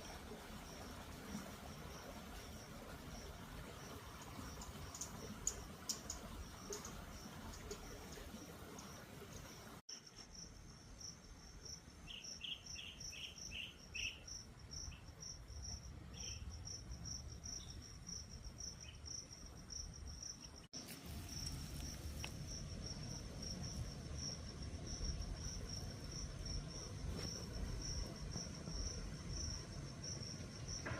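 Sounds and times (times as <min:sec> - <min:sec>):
insects trilling: 0:01.5 - 0:30.9.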